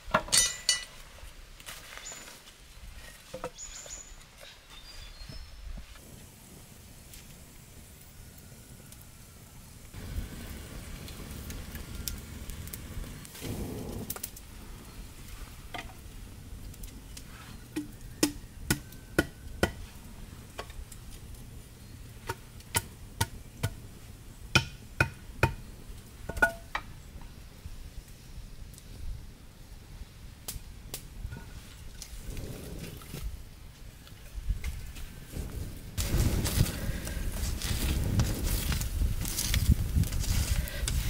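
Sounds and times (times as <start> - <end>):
steady hiss: 5.6 - 18.1, 18.8 - 41.0.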